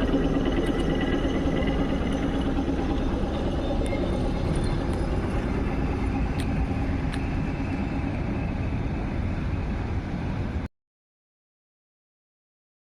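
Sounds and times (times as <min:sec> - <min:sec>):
electric train running: 0:00.0 - 0:10.5.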